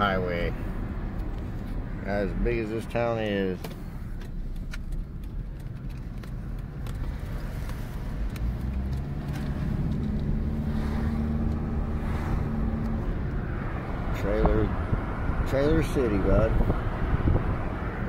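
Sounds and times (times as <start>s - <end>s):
car engine from inside cabin: 0.0s - 18.0s
road noise: 0.0s - 18.0s.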